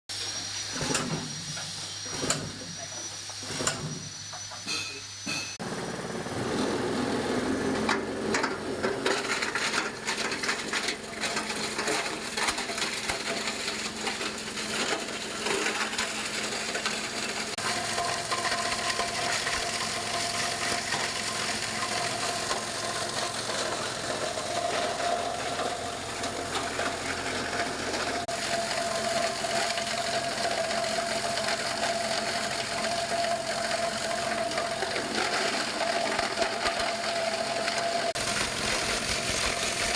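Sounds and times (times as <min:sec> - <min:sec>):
steady whine: 0:00.1 - 0:39.9
plastic shredding machine rattling: 0:05.6 - 0:39.9.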